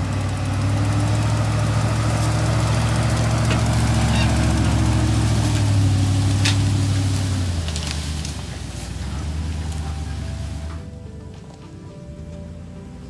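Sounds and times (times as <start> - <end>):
pickup truck engine under load: 0.0 - 13.0.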